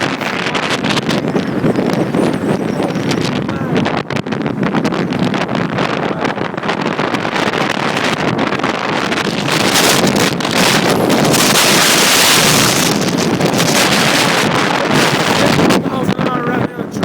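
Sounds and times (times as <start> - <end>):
gusting wind buffeting microphone: 0.0 - 17.0.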